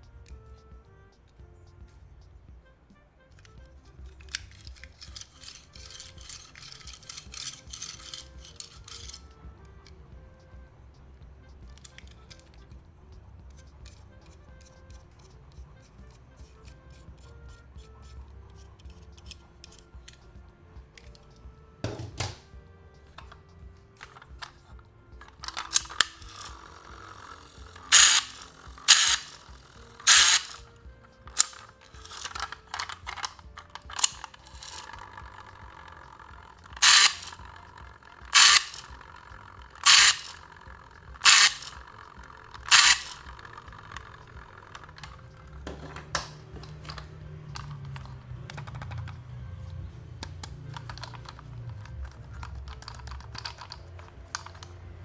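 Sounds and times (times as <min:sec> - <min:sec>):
faint background music: 0:00.0 - 0:55.0
plastic toys clicking and clacking: 0:03.3 - 0:09.9, 0:11.5 - 0:12.8, 0:13.5 - 0:20.2, 0:20.9 - 0:55.0.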